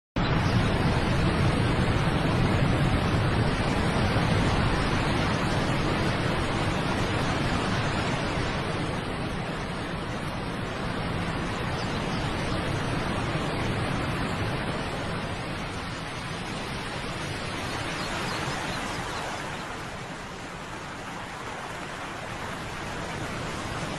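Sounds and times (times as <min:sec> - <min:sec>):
waterfall rushing: 0:00.4 - 0:23.9.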